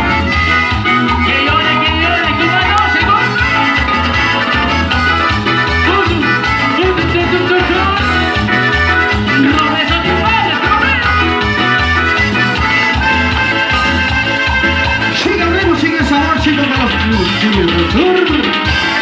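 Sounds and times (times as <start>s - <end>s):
latin dance band music: 0.0s - 19.0s.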